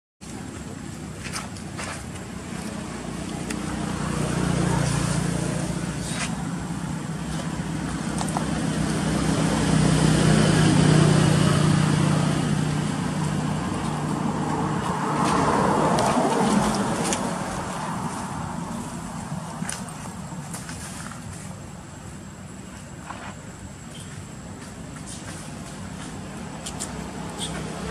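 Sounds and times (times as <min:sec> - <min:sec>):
motor vehicles passing: 0:00.3 - 0:22.1, 0:23.0 - 0:27.9.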